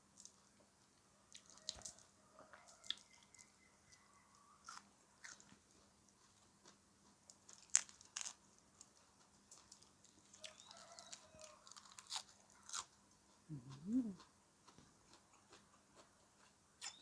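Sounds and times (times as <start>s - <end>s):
chewing crisp food: 0.0s - 17.0s.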